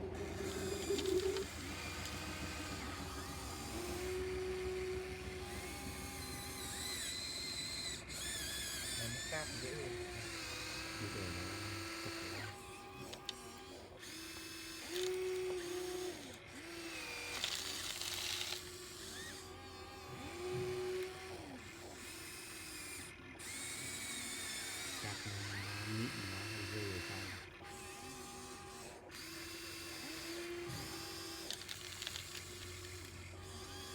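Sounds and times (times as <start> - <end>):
small electric motors whining: 0.0 - 33.9.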